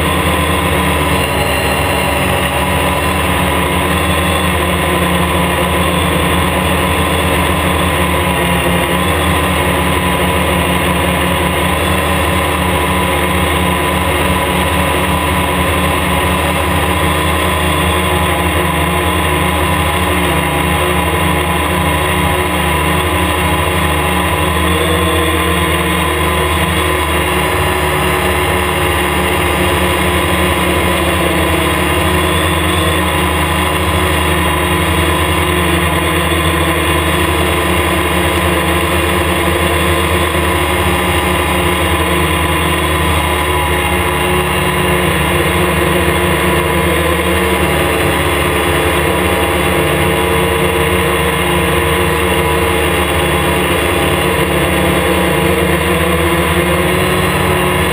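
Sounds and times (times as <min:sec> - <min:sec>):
drone propellers whirring: 0:00.0 - 0:57.9.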